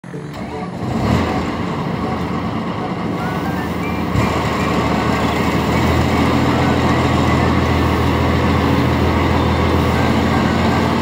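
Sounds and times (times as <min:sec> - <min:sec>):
combine harvester diesel engine: 0:00.0 - 0:11.0.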